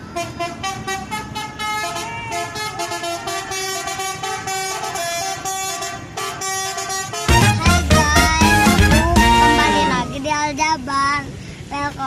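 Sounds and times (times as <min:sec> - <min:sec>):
bus horn playing a tune: 0:00.0 - 0:10.2.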